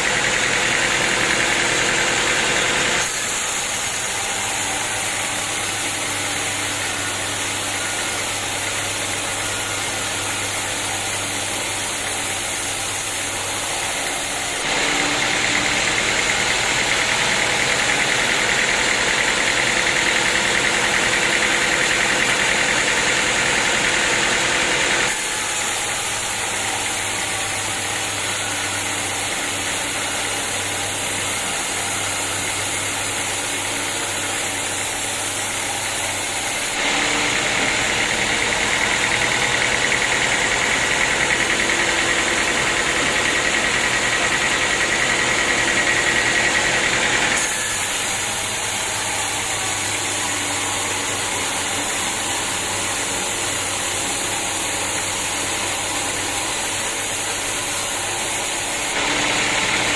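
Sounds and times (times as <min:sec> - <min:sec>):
saw blade cutting wood: 0:00.0 - 0:59.9
sawmill machinery running: 0:00.0 - 0:59.9.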